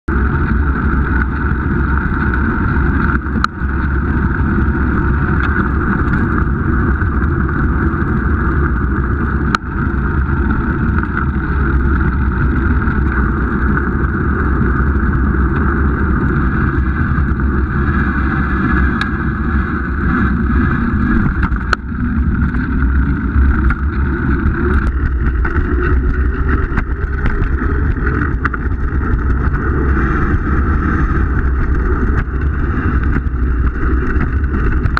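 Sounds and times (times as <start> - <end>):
wind and road noise: 0.0 - 34.9.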